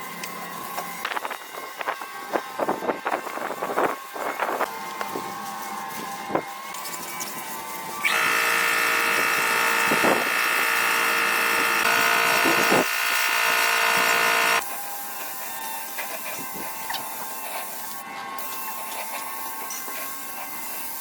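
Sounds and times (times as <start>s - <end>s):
small electric motor whining: 0.2s - 21.0s.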